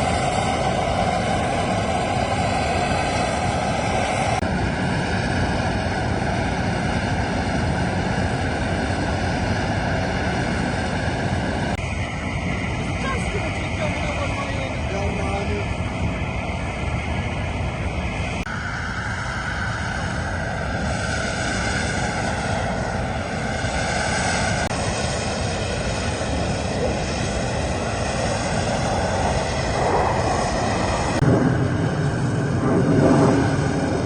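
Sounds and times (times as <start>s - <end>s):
aircraft engines rushing: 0.0s - 34.0s.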